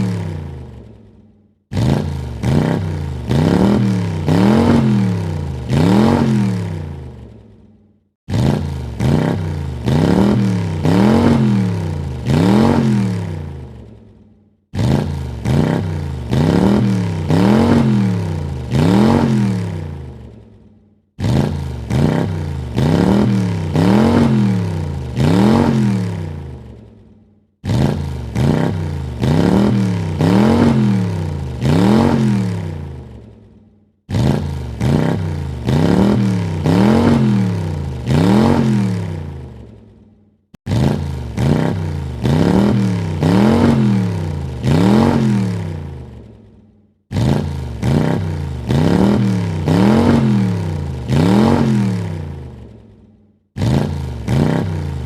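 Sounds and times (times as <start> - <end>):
car engine revving: 0.0 - 1.0, 1.7 - 7.4, 8.3 - 14.0, 14.7 - 20.4, 21.2 - 27.0, 27.6 - 33.3, 34.1 - 39.8, 40.6 - 46.3, 47.1 - 52.7, 53.6 - 55.0.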